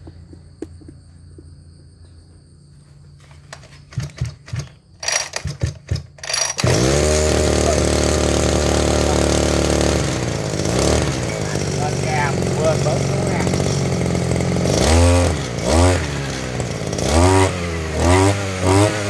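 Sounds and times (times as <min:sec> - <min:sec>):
brush cutter engine running: 0:03.2 - 0:19.0
recoil starter pulls: 0:03.2 - 0:19.0.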